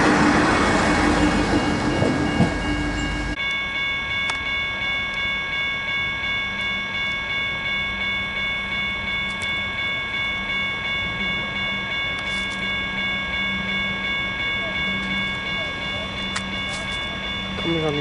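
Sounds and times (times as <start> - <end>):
level crossing bell ringing: 0.7 - 18.0.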